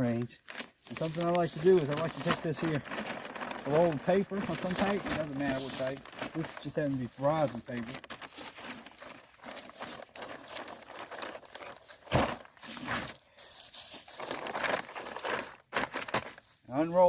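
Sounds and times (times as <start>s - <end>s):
paper and tape crinkling: 0.0s - 17.0s.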